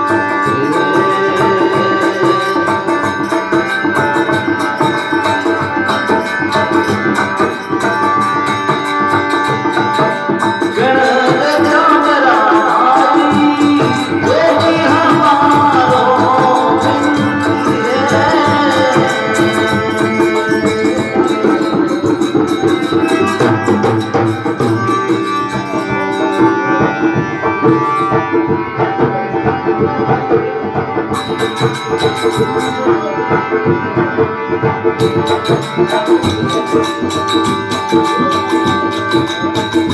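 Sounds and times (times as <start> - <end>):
gliding melody line: 0.0 - 39.9
hand drum rhythm: 0.0 - 39.9
rattling percussion: 0.0 - 39.9
sustained melodic accompaniment: 0.0 - 39.9.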